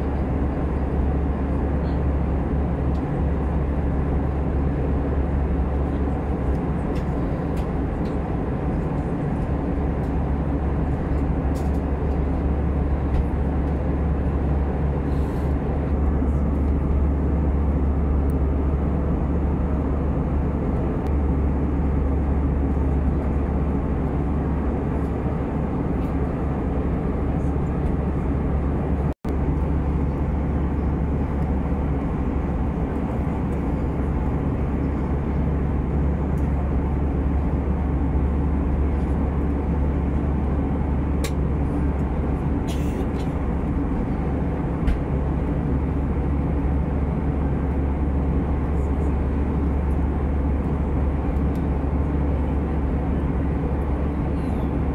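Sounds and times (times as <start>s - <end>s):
air rushing along fuselage: 0.0s - 54.9s
low engine drone: 0.0s - 54.9s.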